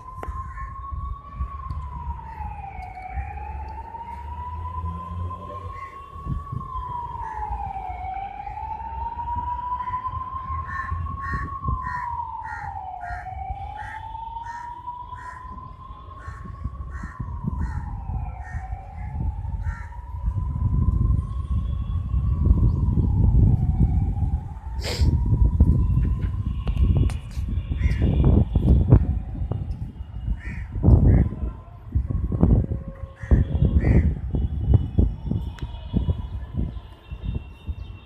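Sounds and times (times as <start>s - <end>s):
siren wailing: 0.0s - 38.0s.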